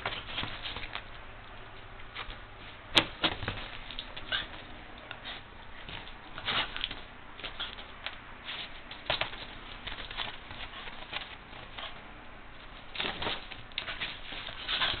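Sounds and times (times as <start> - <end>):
dog and cat scuffling on couch: 0.0 - 15.0.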